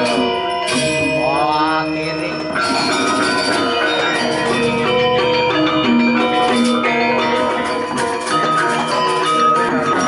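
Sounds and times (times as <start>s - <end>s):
gamelan playing: 0.0s - 10.0s.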